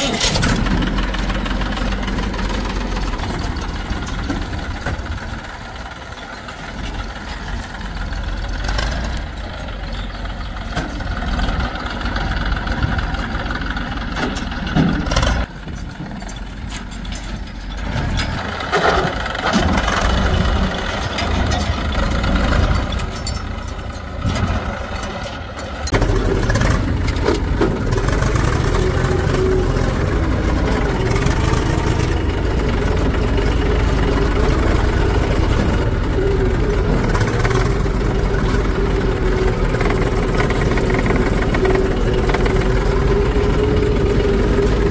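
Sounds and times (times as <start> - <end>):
heavy machinery diesel engines: 0.0 - 44.9.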